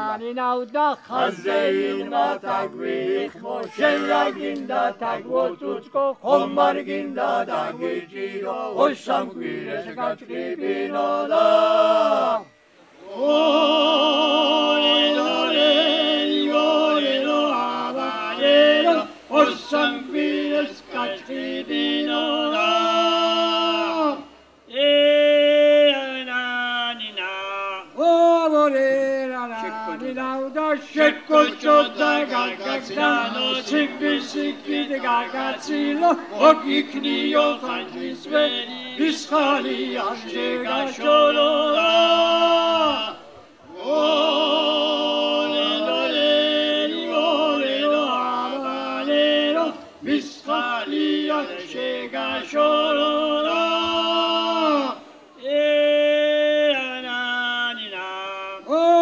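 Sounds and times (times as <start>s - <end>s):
men singing in harmony: 0.0s - 0.3s, 1.0s - 59.0s.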